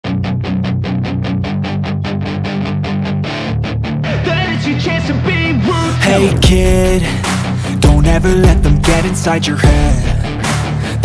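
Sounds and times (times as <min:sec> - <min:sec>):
bass line: 0:00.0 - 0:11.0
rock guitar chords: 0:00.0 - 0:11.0.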